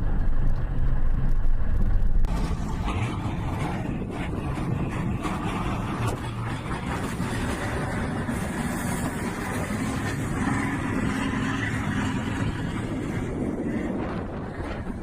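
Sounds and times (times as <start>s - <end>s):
vehicle engine running: 0.0s - 15.0s
wind noise on microphone: 0.0s - 15.0s.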